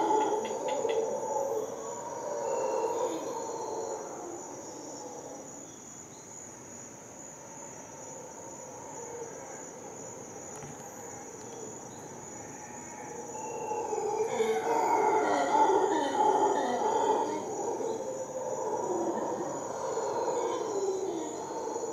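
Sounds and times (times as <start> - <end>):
howler monkeys howling: 0.0 - 5.9, 7.5 - 21.9
high drone of insects: 0.0 - 21.9.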